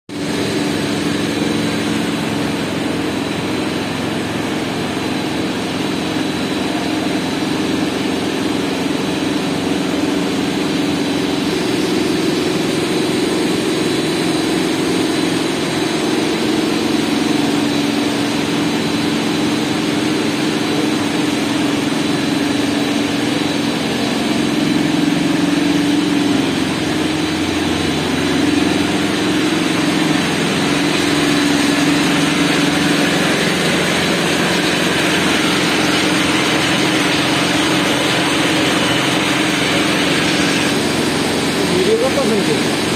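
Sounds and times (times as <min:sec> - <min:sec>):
machinery hum: 0:00.1 - 0:42.9
pumps and aerated water rushing: 0:00.1 - 0:42.9.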